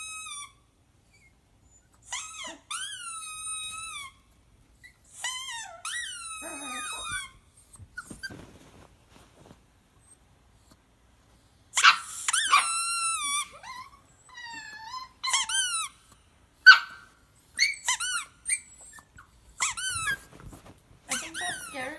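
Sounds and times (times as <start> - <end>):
dog whining and yelping: 0.0 - 8.6, 11.8 - 21.9.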